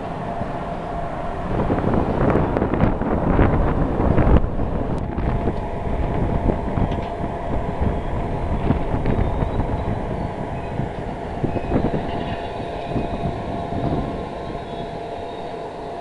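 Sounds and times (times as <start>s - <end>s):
faint steady whine: 0.0s - 16.0s
rushing air: 0.0s - 16.0s
train wheels rolling on rails: 0.0s - 16.0s.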